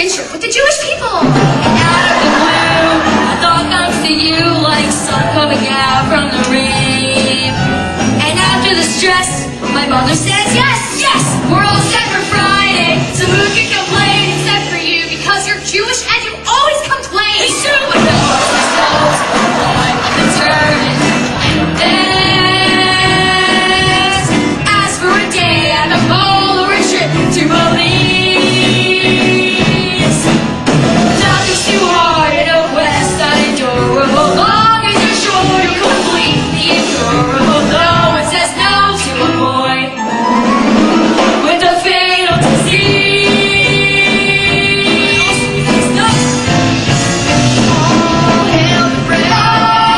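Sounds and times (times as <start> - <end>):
musical theatre singing: 0.0 - 49.9
instrumental accompaniment: 0.9 - 49.9.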